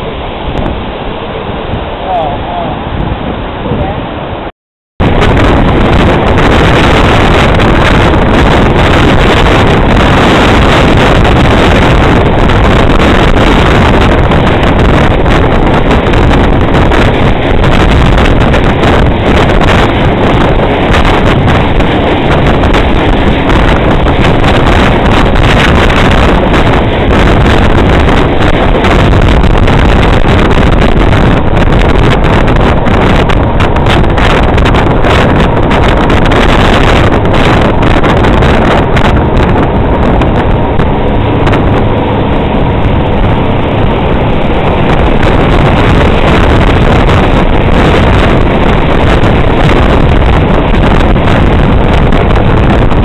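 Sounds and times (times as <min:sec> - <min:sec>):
speedboat engine rushing: 0:00.0 - 0:53.0
water rushing: 0:00.0 - 0:53.0
wind buffeting microphone: 0:00.0 - 0:53.0.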